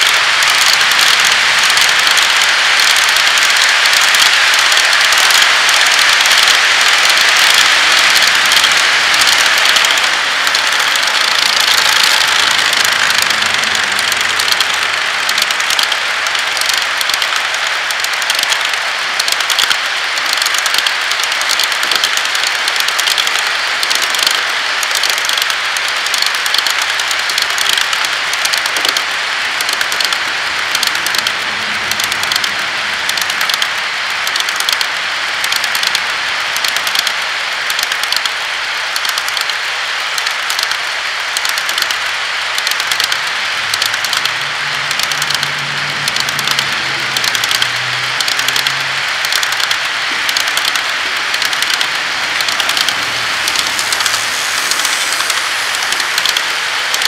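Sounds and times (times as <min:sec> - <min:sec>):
fast irregular clicks: 0:00.0 - 0:57.0
model train wheels rolling on rail: 0:00.0 - 0:57.0.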